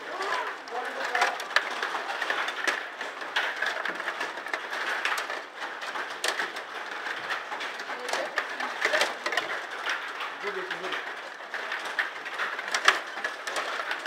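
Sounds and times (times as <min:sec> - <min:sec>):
plastic players clacking puck: 0:00.0 - 0:14.0
steady background noise: 0:00.0 - 0:14.0.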